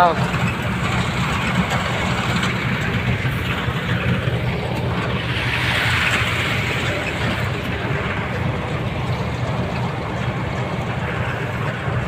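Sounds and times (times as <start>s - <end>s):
harvester engine droning: 0.0s - 12.0s.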